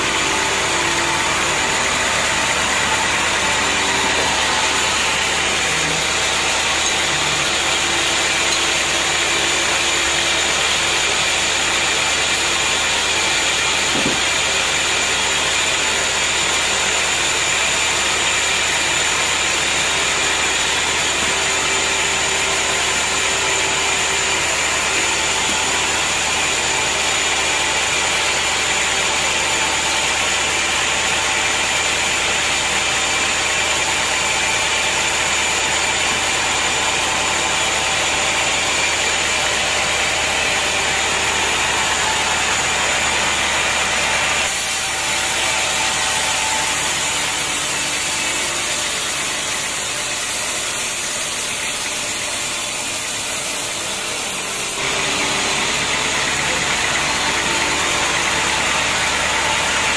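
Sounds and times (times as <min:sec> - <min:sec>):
band sawmill droning: 0:00.0 - 0:59.9.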